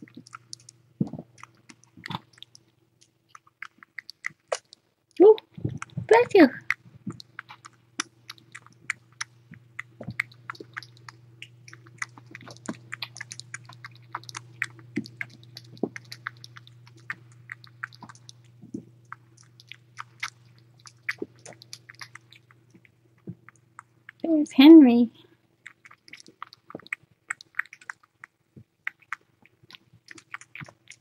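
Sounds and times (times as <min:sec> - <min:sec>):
kitten suckling wet clicks: 0:00.0 - 0:24.2, 0:25.6 - 0:31.0
steady low hum: 0:00.0 - 0:27.5.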